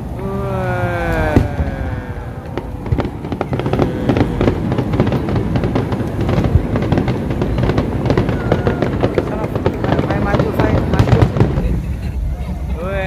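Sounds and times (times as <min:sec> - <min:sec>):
fireworks bangs: 0:00.0 - 0:13.0
low rumble: 0:00.0 - 0:13.0
fireworks crackling pops: 0:01.0 - 0:12.2.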